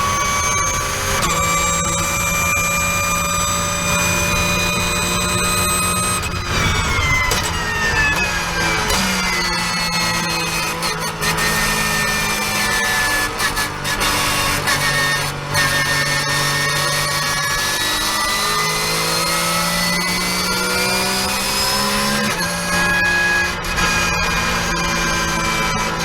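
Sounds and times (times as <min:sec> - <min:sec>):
race car engine at speed: 0:00.0 - 0:26.0.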